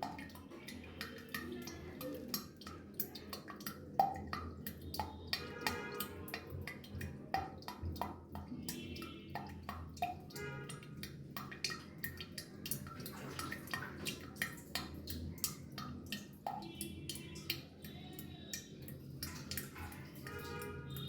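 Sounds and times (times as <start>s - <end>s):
water dripping: 0.0s - 21.0s.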